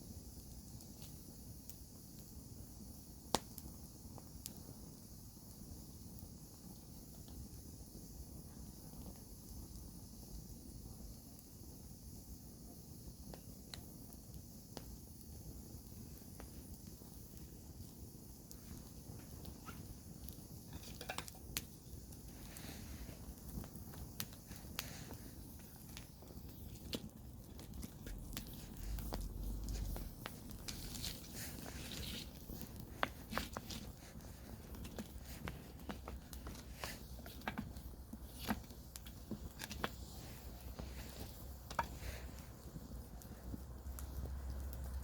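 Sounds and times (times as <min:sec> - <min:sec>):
campfire rumbling: 0:00.0 - 0:45.0
fire crackles and pops: 0:00.0 - 0:45.0.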